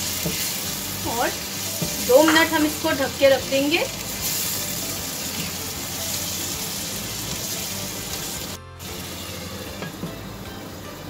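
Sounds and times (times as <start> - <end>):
background music: 0.0 - 11.0
masala sizzling in oil: 0.0 - 11.0.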